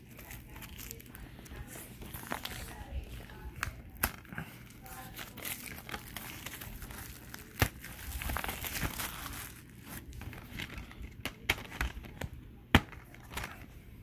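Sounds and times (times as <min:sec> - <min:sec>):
plastic wrap crinkling and tearing: 0:00.0 - 0:13.8.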